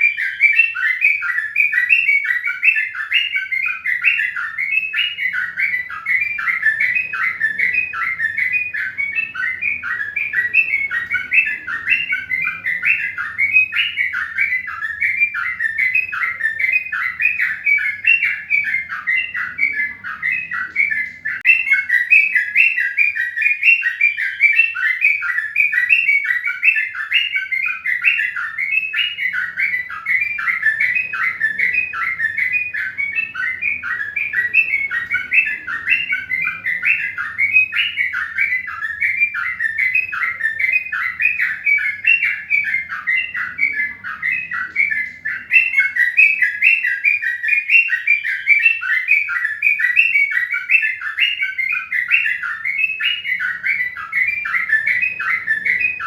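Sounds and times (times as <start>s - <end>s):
bird chirping rapidly: 0.0s - 56.0s.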